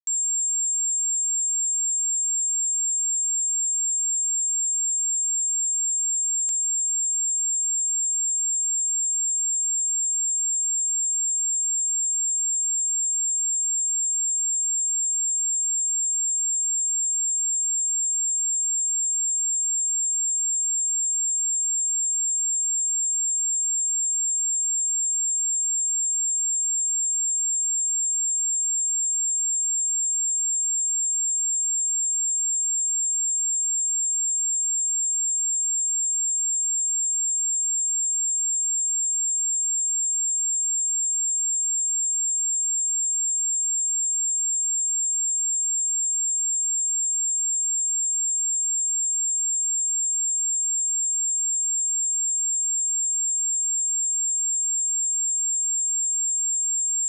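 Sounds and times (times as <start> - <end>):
high-pitched sine-wave test tone: 0.1 - 57.0.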